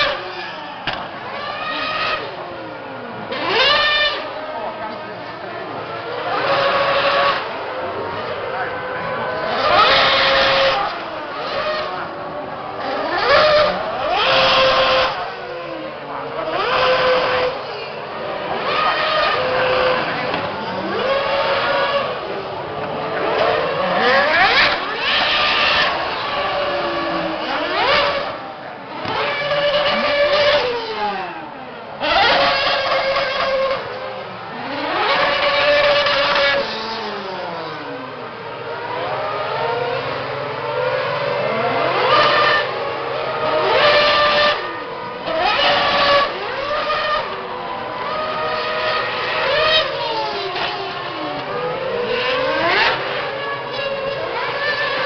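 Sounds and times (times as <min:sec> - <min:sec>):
racing car engines revving high: 0:00.0 - 0:55.0.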